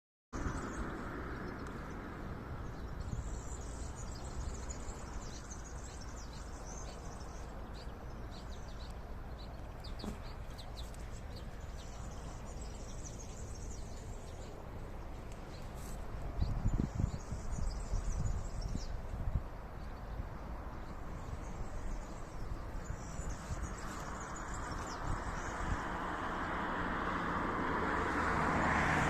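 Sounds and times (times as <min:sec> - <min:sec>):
small birds chirping: 0:00.4 - 0:26.2.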